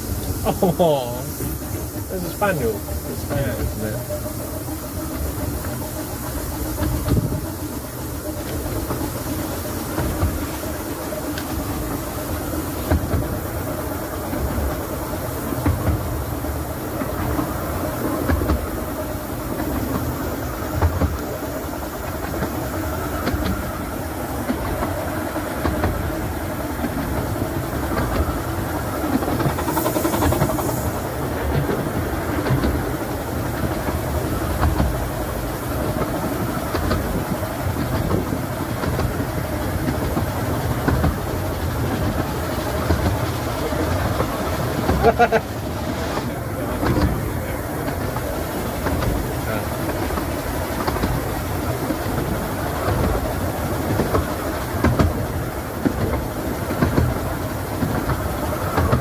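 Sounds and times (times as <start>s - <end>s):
train wheels clicking over rails: 0.0s - 59.0s.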